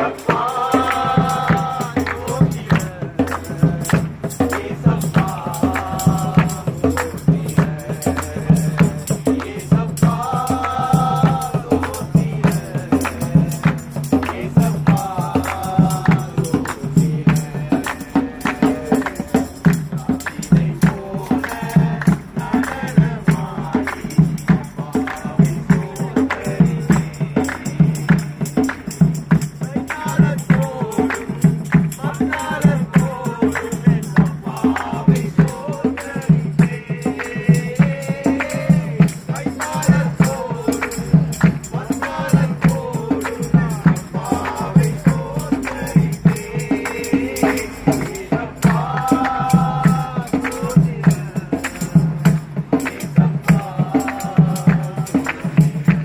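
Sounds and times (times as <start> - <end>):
drums beaten in steady rhythm: 0.0 - 56.0
group singing: 0.0 - 56.0
people clapping: 0.0 - 56.0.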